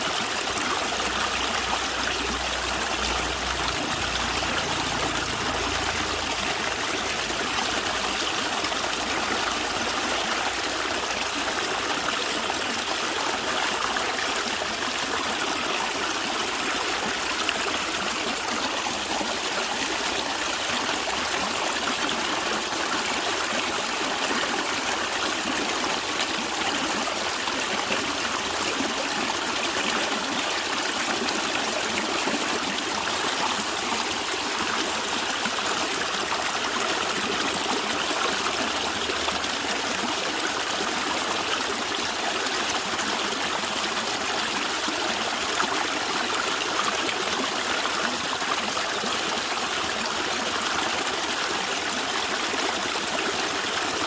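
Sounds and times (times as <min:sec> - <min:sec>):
stream water running and gurgling: 0:00.0 - 0:54.0.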